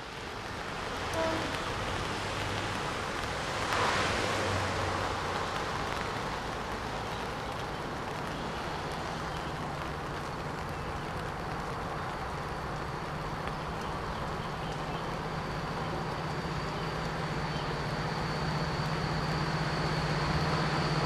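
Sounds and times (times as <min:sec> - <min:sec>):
distant diesel train hum: 0:00.0 - 0:21.0
wind and rain on microphone: 0:00.0 - 0:21.0.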